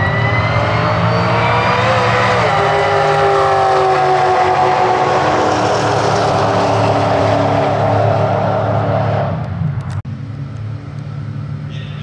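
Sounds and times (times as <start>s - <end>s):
engines idling: 0.0s - 12.0s.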